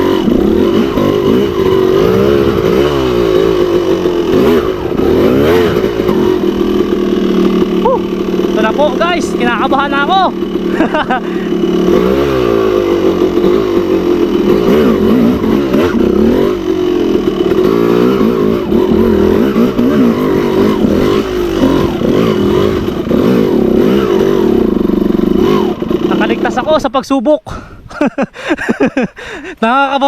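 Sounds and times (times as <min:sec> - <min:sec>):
dirt bike engine revving: 0:00.0 - 0:29.5.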